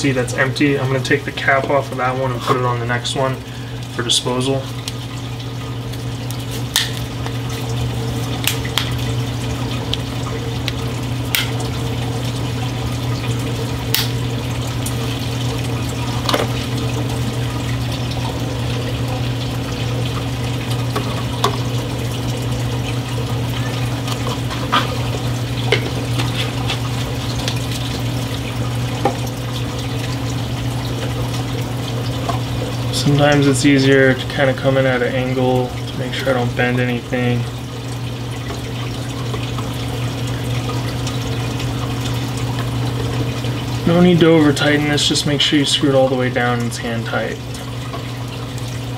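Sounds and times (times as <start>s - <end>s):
low pump hum: 0.0s - 48.9s
water running: 0.0s - 48.9s.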